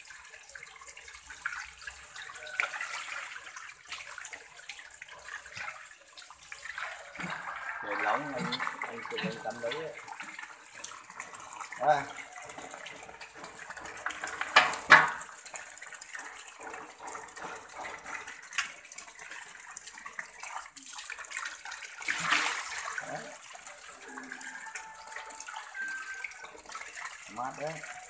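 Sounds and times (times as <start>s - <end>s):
dog splashing in metal basin: 0.0s - 28.0s
running water: 0.0s - 28.0s.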